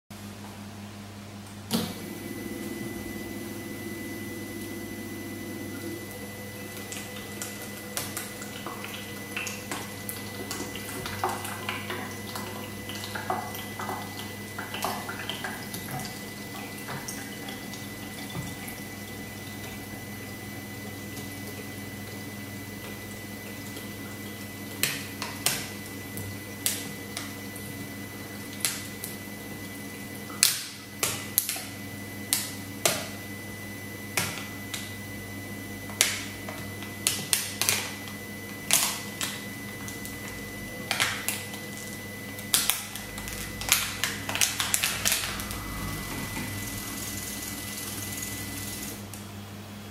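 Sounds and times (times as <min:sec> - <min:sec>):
vacuum pump humming: 0:00.1 - 0:49.9.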